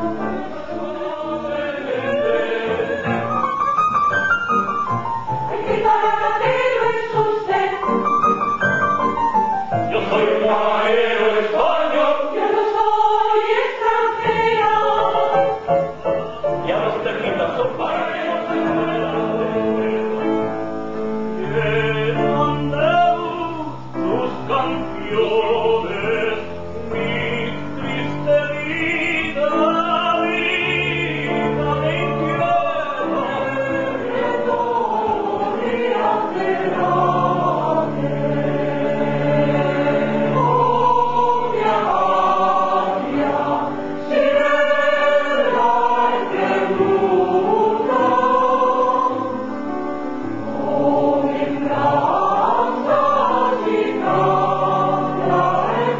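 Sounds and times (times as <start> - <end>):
mixed choir singing: 0.0 - 55.9.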